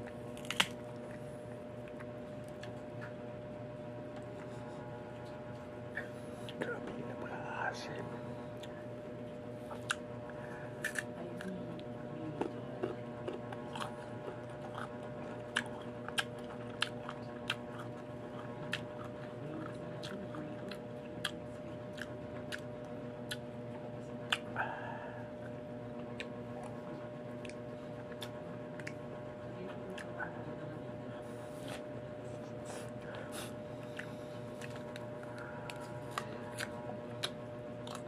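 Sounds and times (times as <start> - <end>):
crunchy chewing: 0.0 - 3.2, 4.1 - 30.4, 31.2 - 38.0
steady background hum: 0.0 - 38.0.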